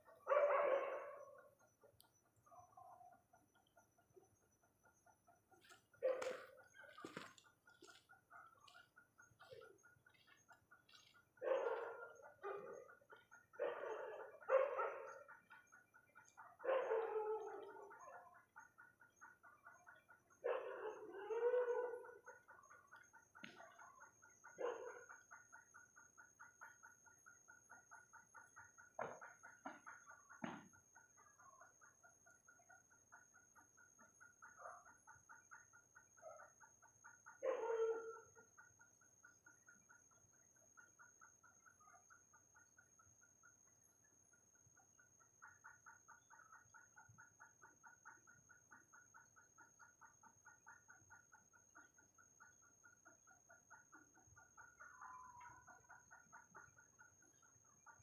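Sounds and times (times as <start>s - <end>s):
bird calls: 0.0s - 58.0s.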